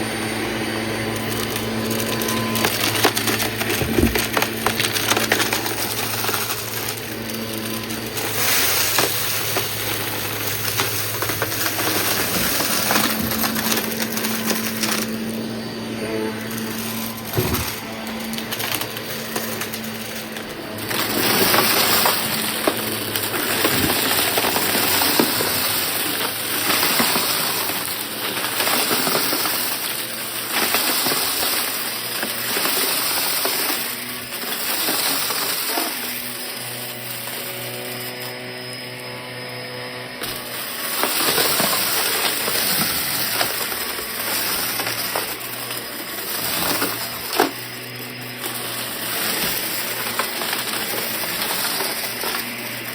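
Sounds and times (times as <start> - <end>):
steady motor hum: 0.0 - 52.9
vacuum cleaner running: 0.0 - 52.9.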